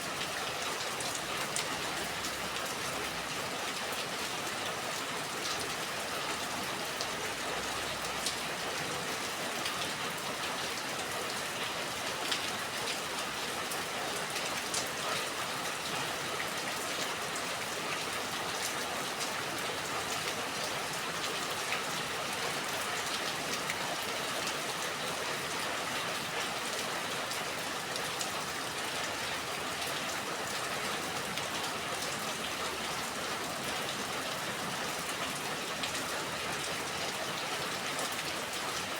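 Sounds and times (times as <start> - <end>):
rain pattering: 0.1 - 38.9.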